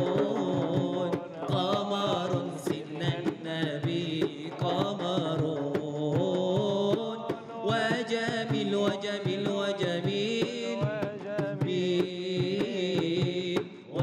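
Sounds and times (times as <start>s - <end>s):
man singing devotional song: 0.0s - 14.0s.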